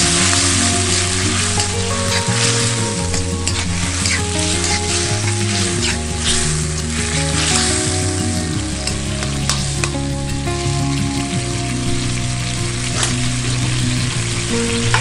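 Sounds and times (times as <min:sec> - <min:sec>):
food sizzling in a pan: 0:00.0 - 0:15.0
soft background music: 0:00.0 - 0:15.0.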